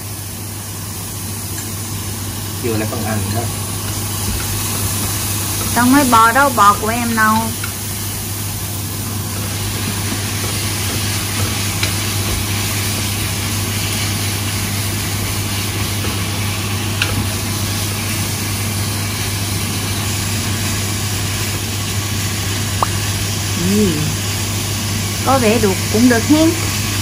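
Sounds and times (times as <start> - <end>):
beef sizzling in a pan: 0.0 - 27.0.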